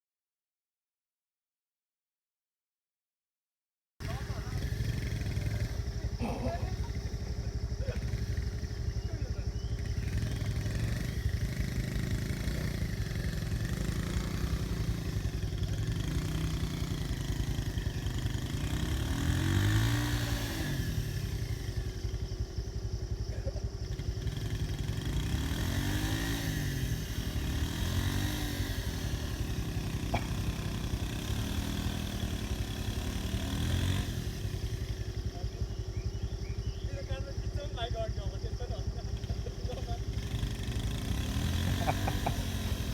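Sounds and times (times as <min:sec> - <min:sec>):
small motorbike engine revving: 0:04.0 - 0:42.9.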